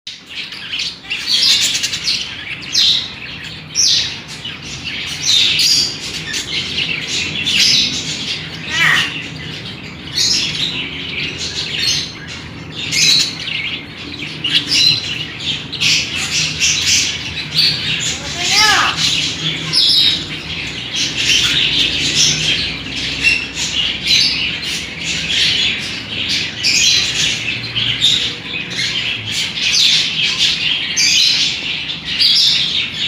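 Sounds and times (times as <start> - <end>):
budgerigar chicks squawking and chirping: 0.1 - 33.0.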